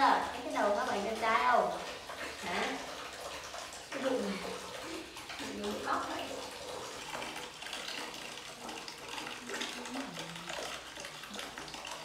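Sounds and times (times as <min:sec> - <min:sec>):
water splashing onto tiled floor: 0:00.0 - 0:12.0.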